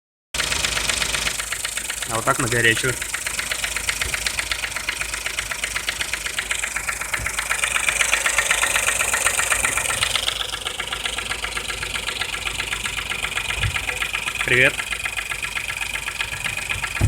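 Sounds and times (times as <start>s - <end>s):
car engine idling: 0.4s - 17.0s
fast even ticking knock: 0.6s - 17.0s.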